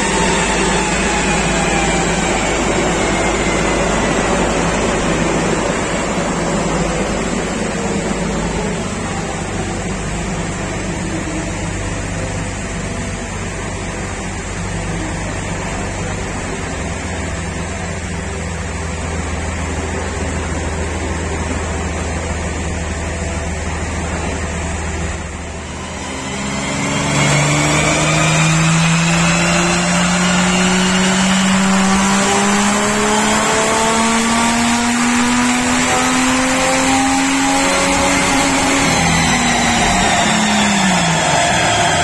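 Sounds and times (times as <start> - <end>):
engine running on dynamometer: 0.0 - 42.0.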